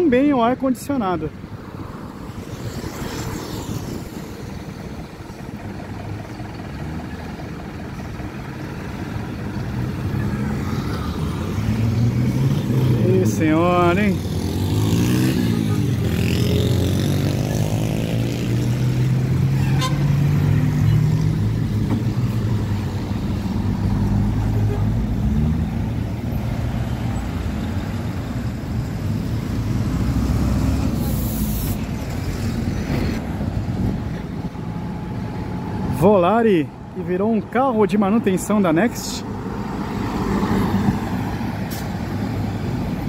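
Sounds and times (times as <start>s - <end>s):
street traffic: 0.0s - 43.0s
bus diesel engine accelerating: 4.0s - 36.0s, 39.2s - 43.0s.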